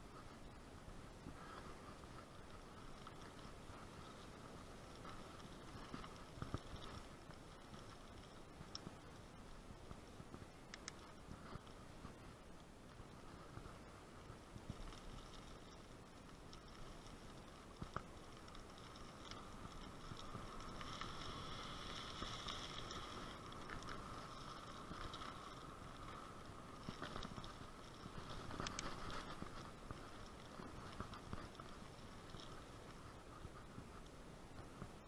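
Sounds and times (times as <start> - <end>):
bicycle tyre road noise: 0.0 - 35.0
bicycle rattles and knocks: 0.2 - 35.0.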